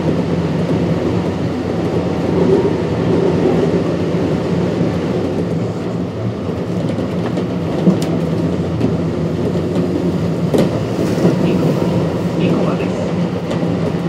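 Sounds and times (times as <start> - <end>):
train wheels rumbling: 0.0 - 14.0
wheels clacking over rail joints: 0.0 - 14.0.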